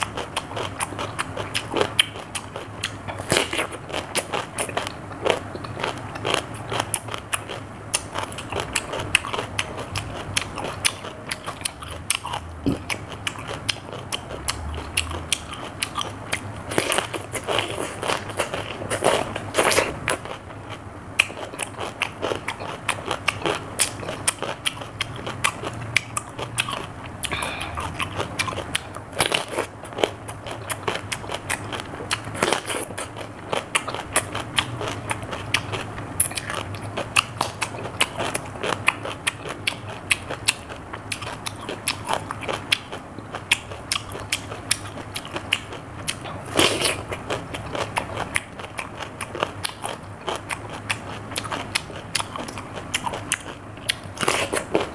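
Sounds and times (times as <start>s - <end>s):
cucumber being chewed: 0.0s - 54.9s.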